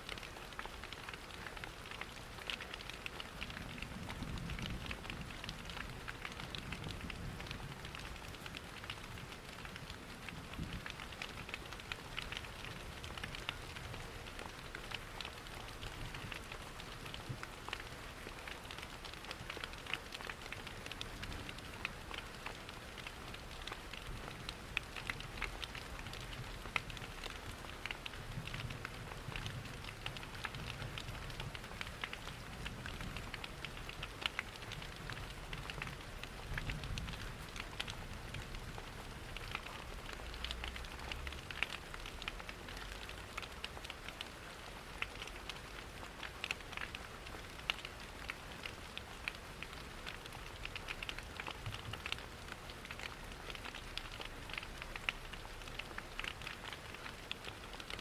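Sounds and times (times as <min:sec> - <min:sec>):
rain pattering: 0:00.0 - 0:58.0
wood fire crackling: 0:00.1 - 0:58.0.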